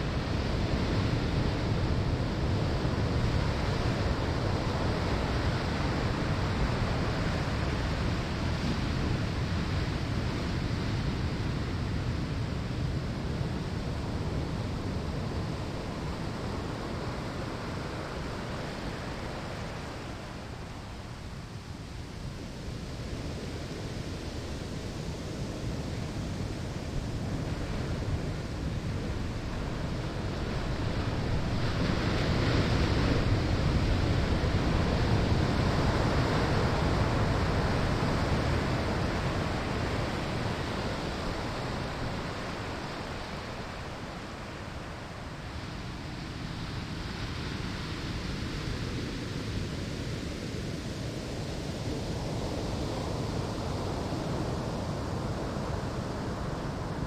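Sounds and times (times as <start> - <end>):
waves breaking on sandy shore: 0.0 - 57.0.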